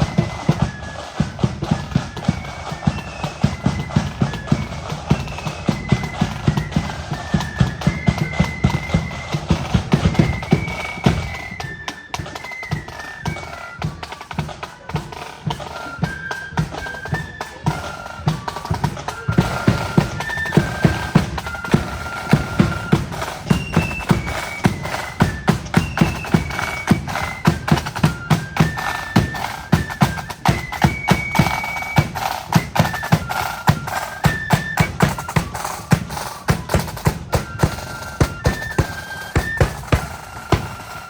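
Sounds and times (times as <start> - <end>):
flutes playing melody: 0.0 - 41.0
snare drums: 0.0 - 41.0.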